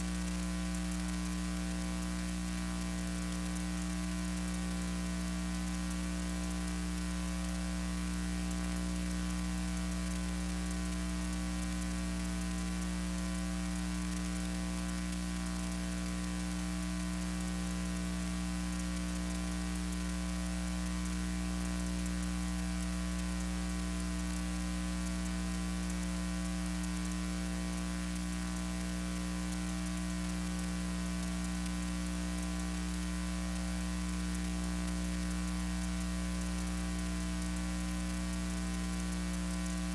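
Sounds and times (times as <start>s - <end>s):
constant hiss: 0.0s - 39.9s
electrical mains hum: 0.0s - 39.9s.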